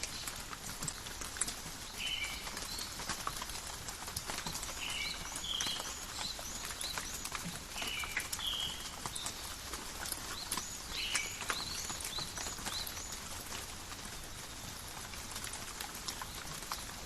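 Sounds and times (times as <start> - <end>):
light rain in forest: 0.0 - 17.0.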